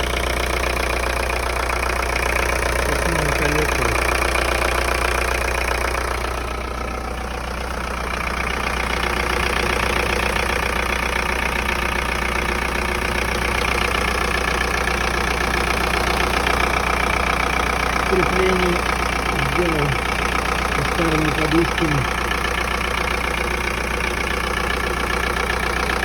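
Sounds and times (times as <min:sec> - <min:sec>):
diesel engine idling with clatter: 0:00.0 - 0:26.0.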